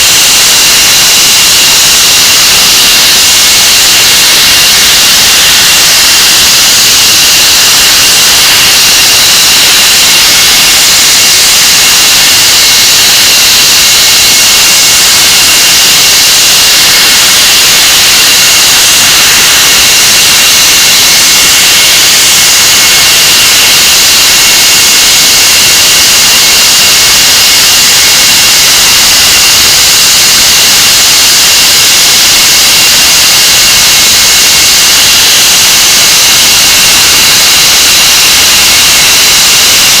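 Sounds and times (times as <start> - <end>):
high-pitched whining tones: 0.0 - 40.0.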